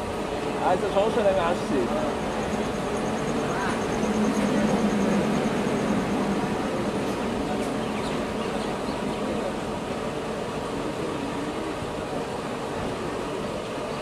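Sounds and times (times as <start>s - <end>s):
faint steady hum: 0.0s - 14.0s
train wheels rushing on rail: 0.0s - 14.0s.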